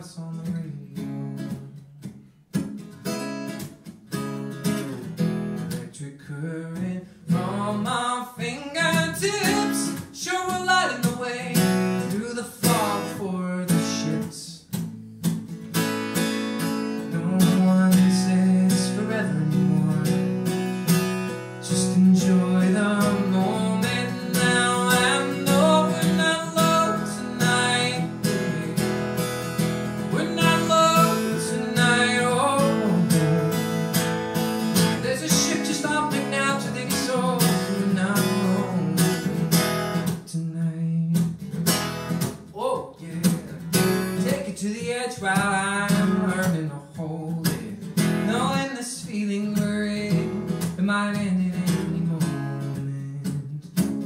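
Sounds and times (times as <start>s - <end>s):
man singing: 0.0s - 1.8s, 5.7s - 14.8s, 16.9s - 20.5s, 21.4s - 34.2s, 34.8s - 41.4s, 42.5s - 54.0s
acoustic guitar strumming: 0.0s - 54.0s.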